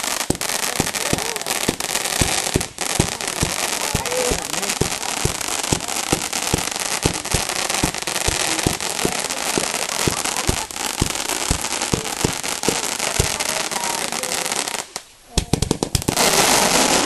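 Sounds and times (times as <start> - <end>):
firework shells booming: 0.0 - 17.0
fireworks crackling: 0.0 - 17.0.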